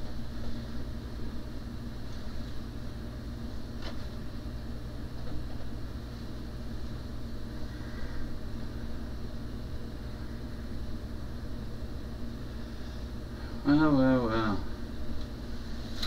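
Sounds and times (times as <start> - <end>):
mains hum and fan noise: 0.0 - 16.0.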